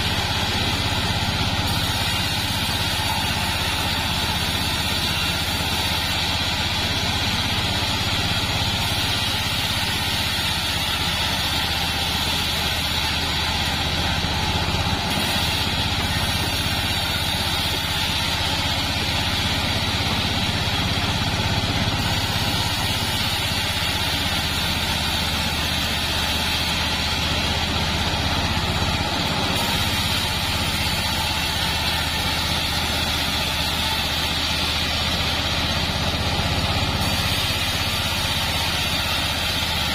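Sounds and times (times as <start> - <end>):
bandsaw mill droning: 0.0 - 39.9.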